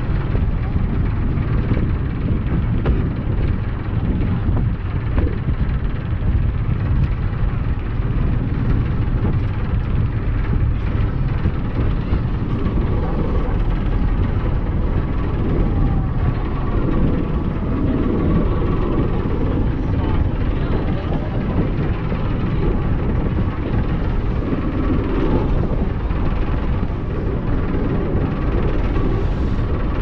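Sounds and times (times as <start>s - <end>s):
ferry engine rumble: 0.0s - 30.0s.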